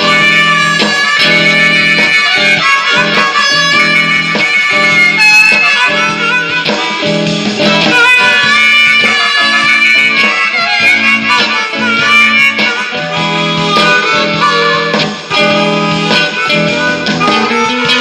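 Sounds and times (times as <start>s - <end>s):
harmonica playing blues: 0.0s - 18.0s
strummed guitar: 0.0s - 18.0s.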